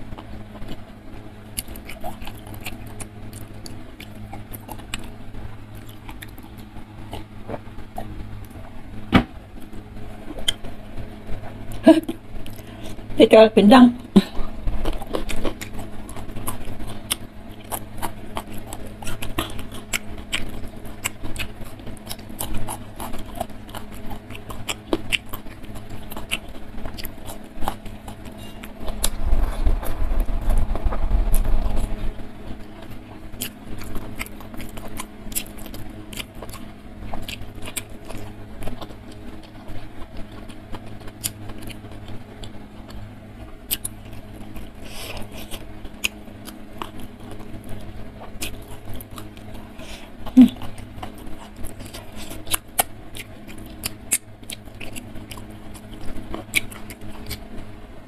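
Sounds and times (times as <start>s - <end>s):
faint steady hum: 0.0s - 58.0s
wet chewing and mouth clicks: 1.5s - 8.8s, 9.6s - 11.8s, 12.4s - 13.0s, 14.2s - 43.1s, 43.7s - 57.7s.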